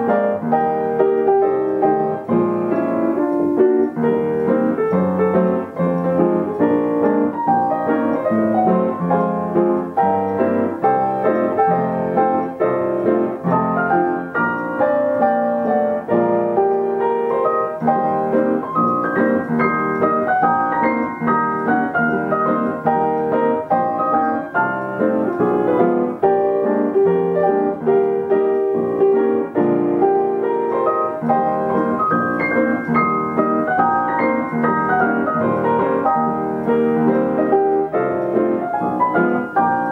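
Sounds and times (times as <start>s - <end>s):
upright piano playing: 0.0s - 39.9s.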